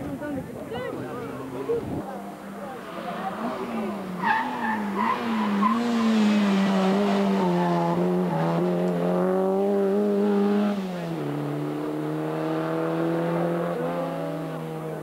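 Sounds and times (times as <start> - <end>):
rally car engine at high revs: 2.2 - 15.0.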